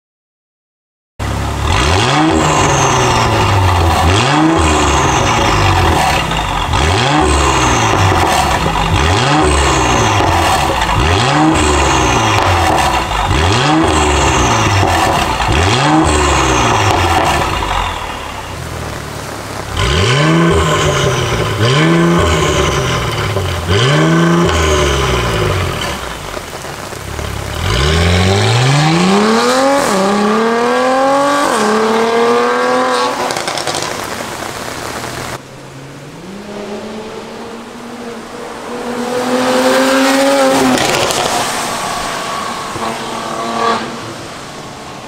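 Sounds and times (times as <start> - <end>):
car engine revving: 1.2 - 45.0.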